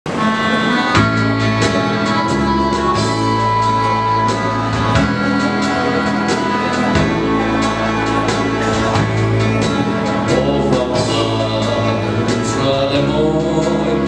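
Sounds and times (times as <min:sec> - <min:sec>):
instrumental background music: 0:00.1 - 0:14.0.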